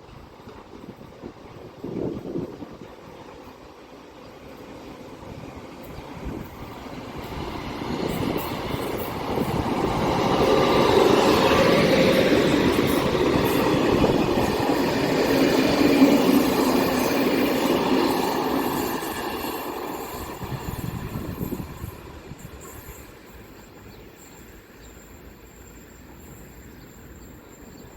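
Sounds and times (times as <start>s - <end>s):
train passing on rails: 0.0s - 27.9s.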